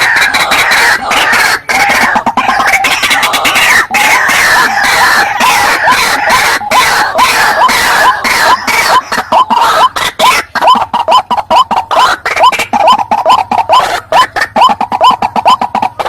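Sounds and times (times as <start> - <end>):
rapid upward-hooked bird notes: 0.0 - 16.0
waterhen harsh croaks: 0.0 - 16.0.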